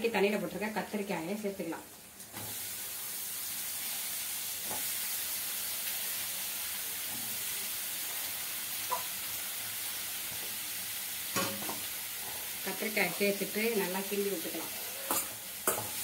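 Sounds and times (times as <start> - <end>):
eggplant sizzling in hot oil: 0.0 - 16.0.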